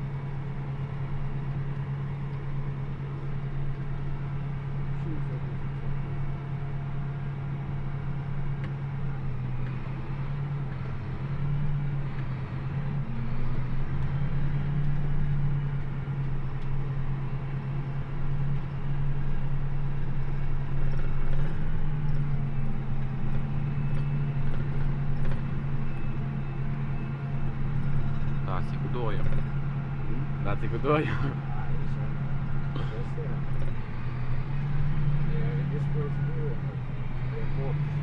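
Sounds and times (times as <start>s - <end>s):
tractor diesel engine drone: 0.0s - 38.0s.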